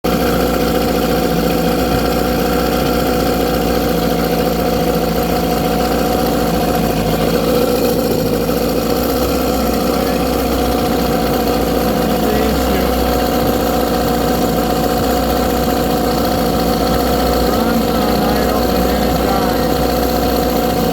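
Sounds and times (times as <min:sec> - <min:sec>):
outboard motor idling: 0:00.0 - 0:20.9.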